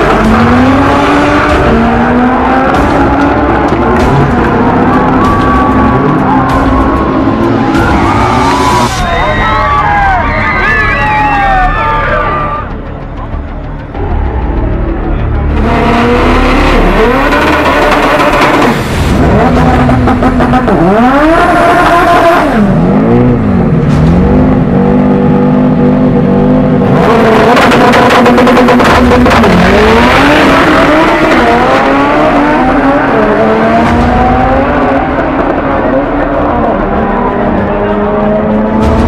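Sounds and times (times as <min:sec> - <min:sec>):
race car engine revving: 0:00.0 - 0:09.0, 0:14.0 - 0:39.0.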